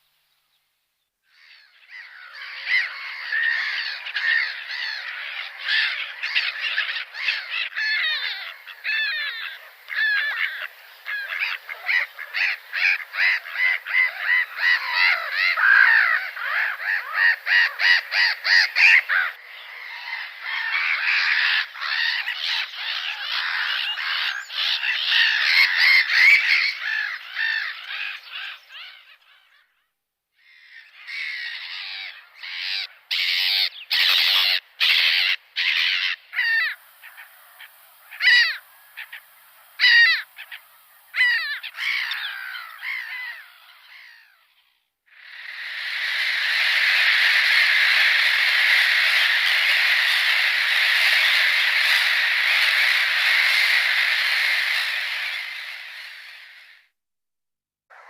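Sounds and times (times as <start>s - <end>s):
gulls calling: 1.3s - 29.6s, 30.8s - 56.8s.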